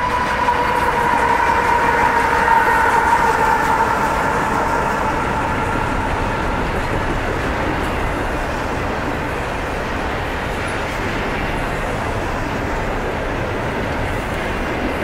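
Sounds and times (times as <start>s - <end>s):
locomotive tone: 0.0s - 14.6s
freight train rolling over rails: 0.0s - 15.0s.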